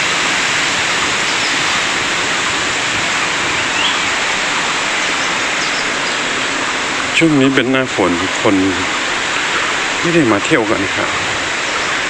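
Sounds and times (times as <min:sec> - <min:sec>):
forest stream rushing: 0:00.0 - 0:12.0.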